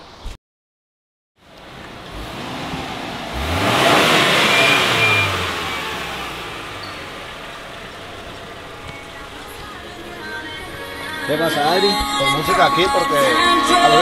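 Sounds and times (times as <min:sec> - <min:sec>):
truck engine accelerating: 0:01.4 - 0:13.4.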